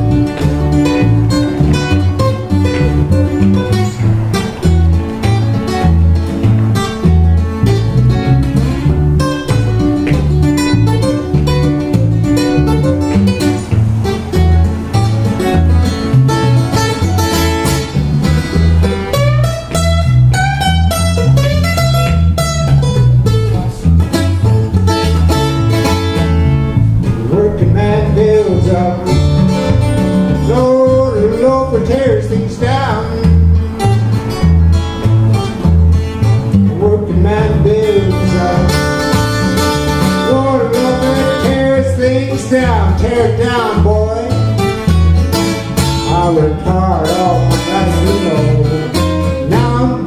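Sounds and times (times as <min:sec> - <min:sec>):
acoustic guitar: 0:00.0 - 0:50.0.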